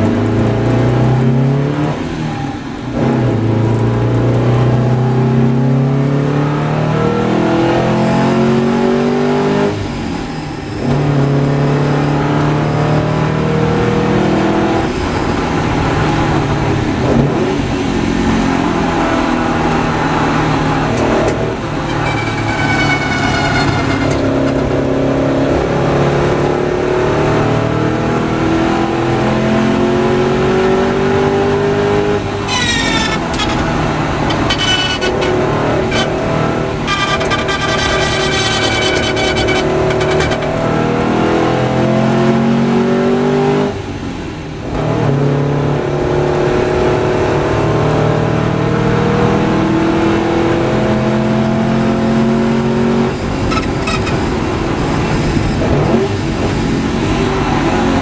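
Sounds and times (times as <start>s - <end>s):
sports car engine accelerating: 0.0s - 10.0s, 10.8s - 58.0s.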